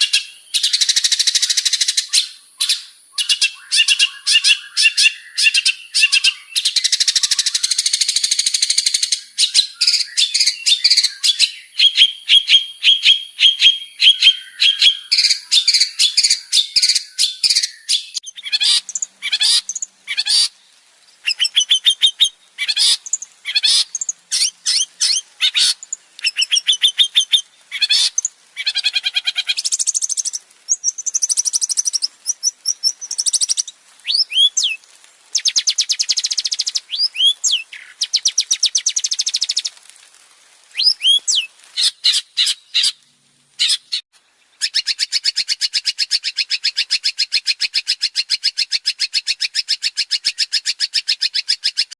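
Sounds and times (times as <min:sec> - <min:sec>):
bird singing chattering song: 0:00.0 - 0:39.8, 0:40.8 - 0:43.0, 0:43.6 - 0:51.9.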